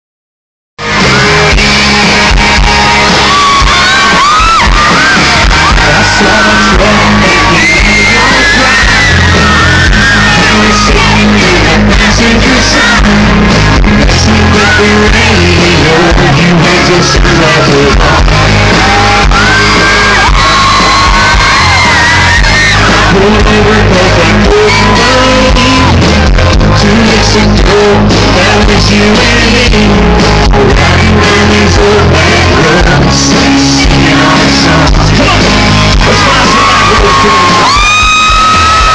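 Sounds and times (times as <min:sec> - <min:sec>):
crowd screaming and whooping: 0:00.8 - 0:38.9
live country band playing: 0:00.8 - 0:38.9.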